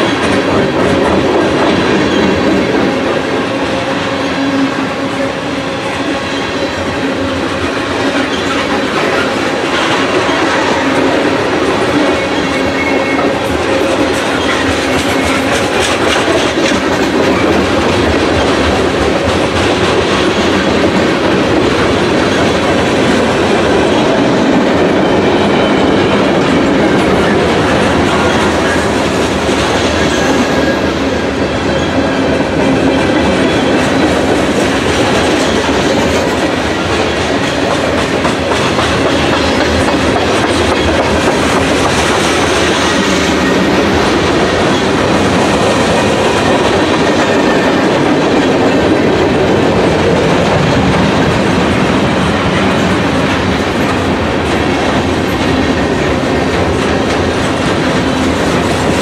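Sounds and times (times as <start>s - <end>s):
train rumbling: 0.0s - 59.0s
train wheels clicking over rail joints: 0.0s - 59.0s.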